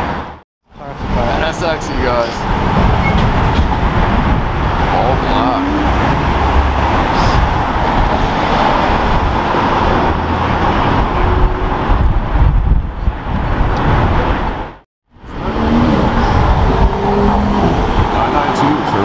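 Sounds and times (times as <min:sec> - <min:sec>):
cars driving through intersection: 0:00.0 - 0:19.0
steady low rumble: 0:00.0 - 0:19.0.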